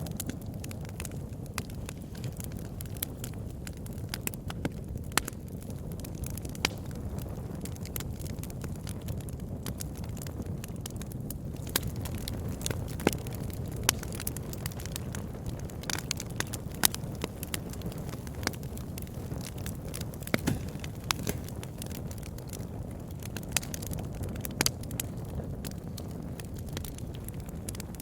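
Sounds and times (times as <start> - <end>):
campfire crackling and popping: 0.0 - 28.0
low fire rumble: 0.0 - 28.0.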